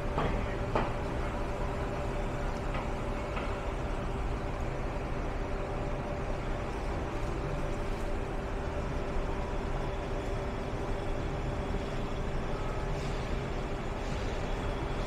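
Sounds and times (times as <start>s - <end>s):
steady engine hum: 0.0s - 15.0s
street traffic rumble: 0.0s - 15.0s.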